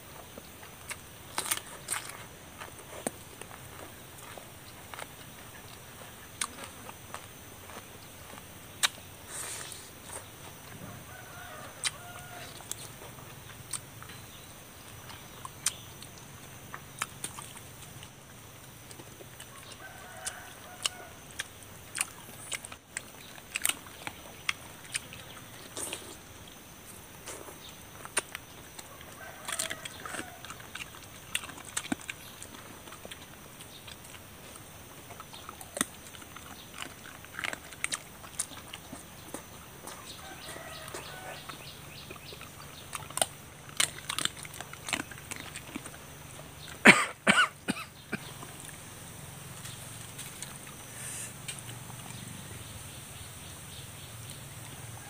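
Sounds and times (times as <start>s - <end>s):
chewing and lip-smacking: 0.2s - 10.7s, 11.5s - 46.8s.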